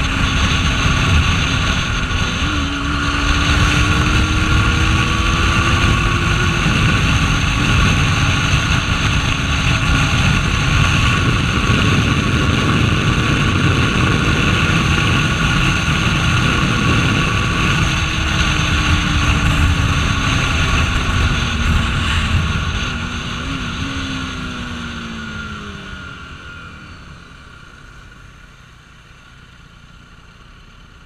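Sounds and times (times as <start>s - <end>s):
wind rush: 0.0s - 26.6s
motorcycle engine: 0.0s - 31.0s.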